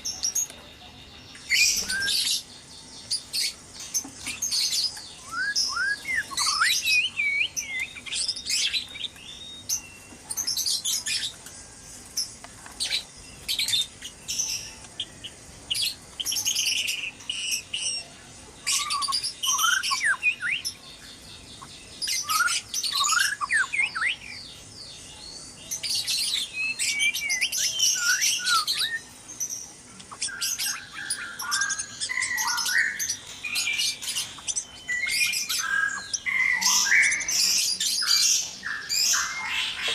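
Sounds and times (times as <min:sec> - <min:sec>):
birds whistling and calling: 0:00.0 - 0:39.9.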